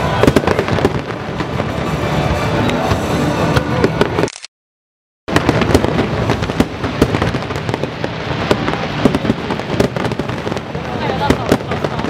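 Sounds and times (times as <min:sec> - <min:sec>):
fireworks bangs and crackles: 0:00.0 - 0:04.3, 0:05.3 - 0:12.0.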